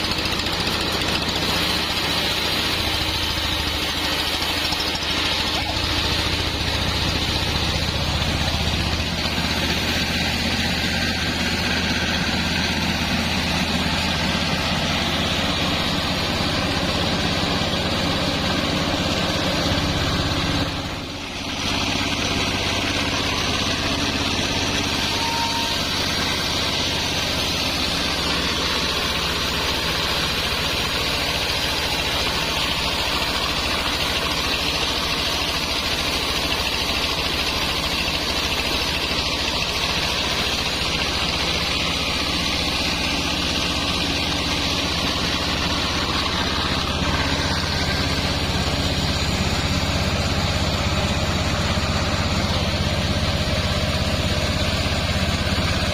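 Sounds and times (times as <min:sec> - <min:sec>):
band saw running: 0:00.0 - 0:55.9.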